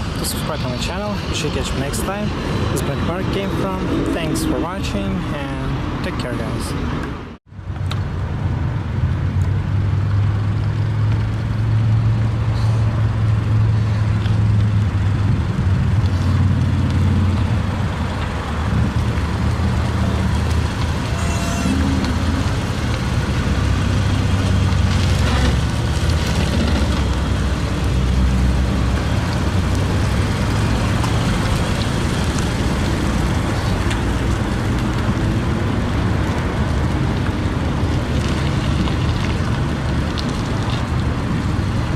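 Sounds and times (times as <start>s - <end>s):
road and wind noise: 0.0s - 41.9s
car engine hum: 6.8s - 41.9s.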